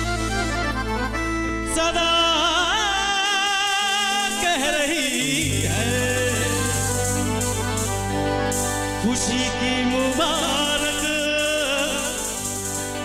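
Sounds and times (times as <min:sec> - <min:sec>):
gliding melody line: 0:00.0 - 0:13.0
keyboard chords: 0:00.0 - 0:13.0
low bass notes: 0:00.0 - 0:13.0.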